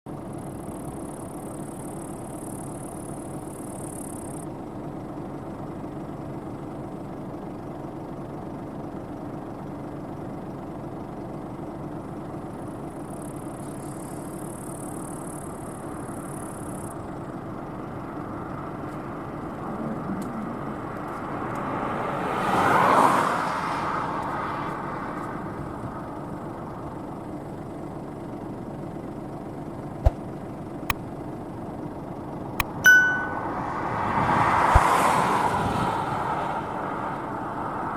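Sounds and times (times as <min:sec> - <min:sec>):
combine harvester running: 0:00.1 - 0:22.2, 0:24.7 - 0:34.9.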